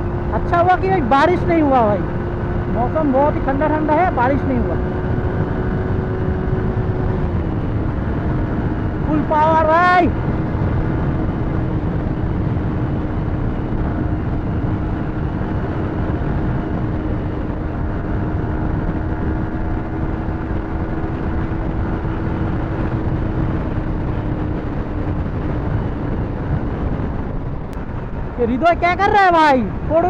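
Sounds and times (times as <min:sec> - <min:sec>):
motorcycle engine at high revs: 0:00.0 - 0:30.0
wind rush on microphone: 0:00.0 - 0:30.0.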